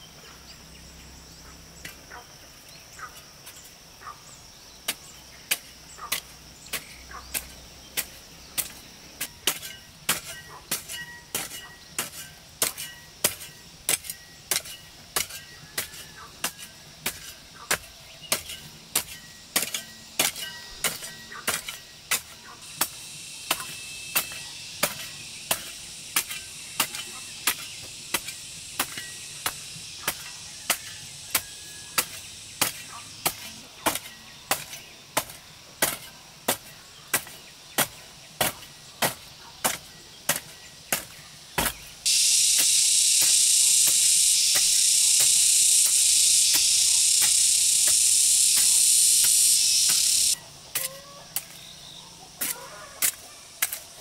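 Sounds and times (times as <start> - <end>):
steady high hiss: 2.4 - 50.8
hoe chopping into dry soil: 4.9 - 51.7.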